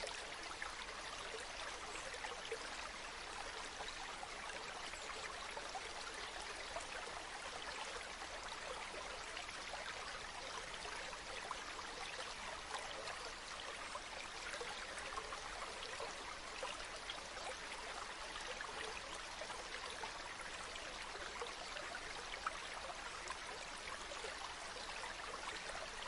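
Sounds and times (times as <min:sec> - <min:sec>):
flowing water: 0:00.0 - 0:26.0.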